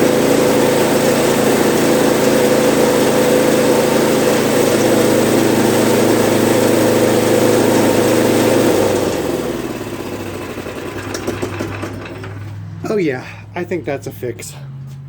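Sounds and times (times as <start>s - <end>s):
snowblower engine running: 0.0s - 13.8s.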